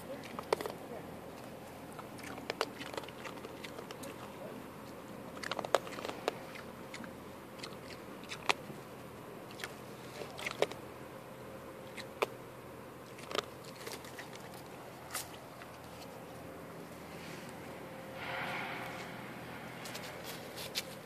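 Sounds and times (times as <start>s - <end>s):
animal crunching dry kibble: 0.0s - 10.9s, 11.8s - 12.4s, 13.0s - 17.6s, 19.8s - 21.0s.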